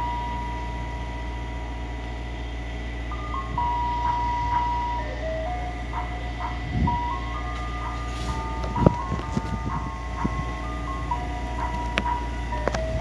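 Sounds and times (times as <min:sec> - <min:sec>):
ice cream truck chime melody: 0:00.0 - 0:13.0
low steady rumble: 0:00.0 - 0:13.0.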